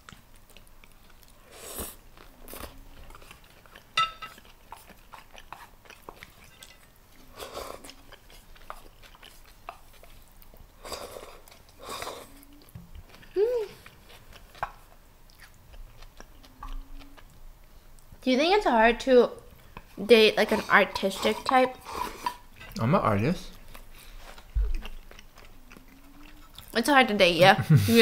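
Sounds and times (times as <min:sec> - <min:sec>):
chewing: 0:00.0 - 0:18.2, 0:19.5 - 0:22.8, 0:23.5 - 0:26.8.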